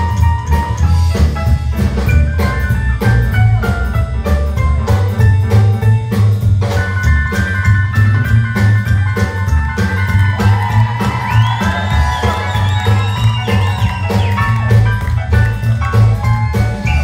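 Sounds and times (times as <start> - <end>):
drum kit: 0.0 - 17.0
piano: 0.0 - 17.0
slapped upright bass: 0.0 - 17.0.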